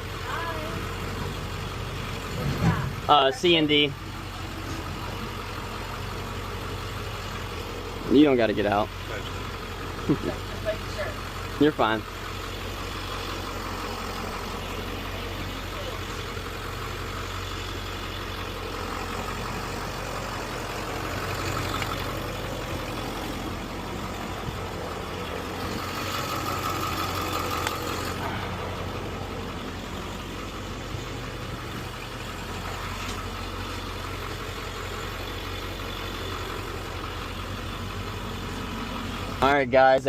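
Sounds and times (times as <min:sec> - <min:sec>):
truck engine low hum: 0:00.0 - 0:40.0.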